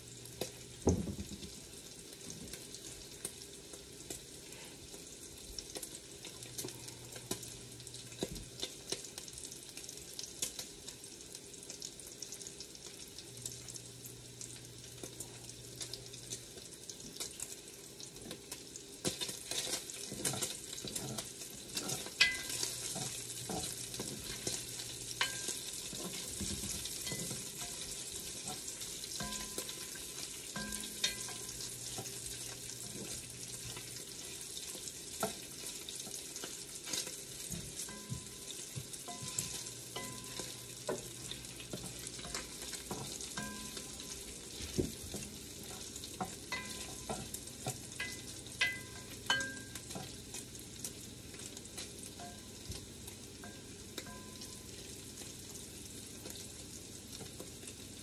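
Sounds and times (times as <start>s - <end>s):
bacon sizzling and crackling: 0.0s - 58.0s.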